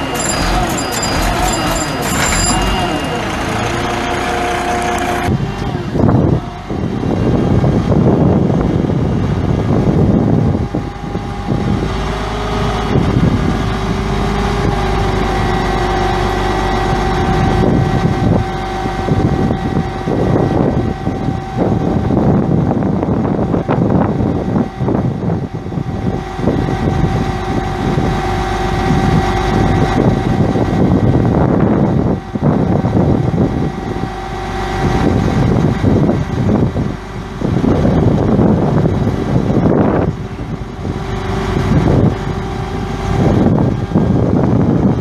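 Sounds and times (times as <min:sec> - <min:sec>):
diesel engine running: 0:00.0 - 0:45.0
steady whine: 0:00.0 - 0:45.0.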